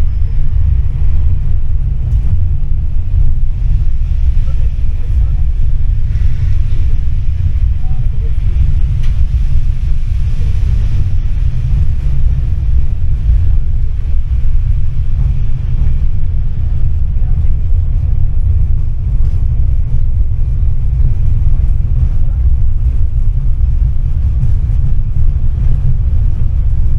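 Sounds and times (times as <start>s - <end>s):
tram rumbling from inside: 0.0s - 26.9s.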